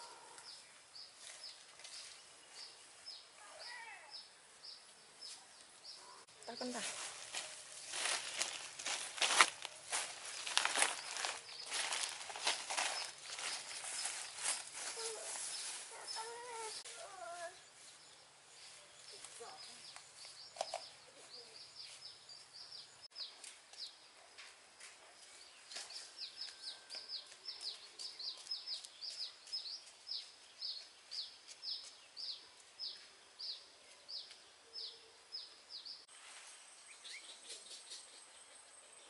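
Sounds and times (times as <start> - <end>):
faint outdoor background noise: 0.0 - 39.0.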